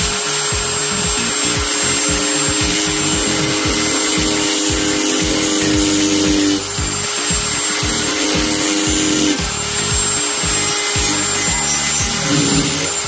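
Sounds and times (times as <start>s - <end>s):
die grinder whining: 0.0s - 13.0s
music with thumping beat: 0.0s - 13.0s.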